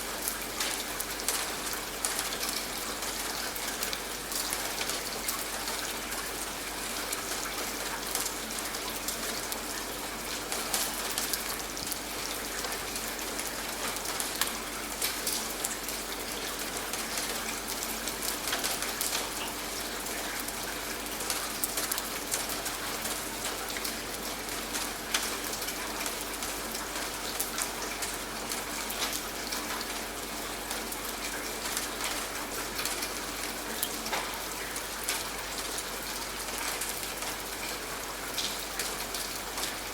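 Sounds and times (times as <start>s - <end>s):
rain drops hitting a surface: 0.0s - 39.9s.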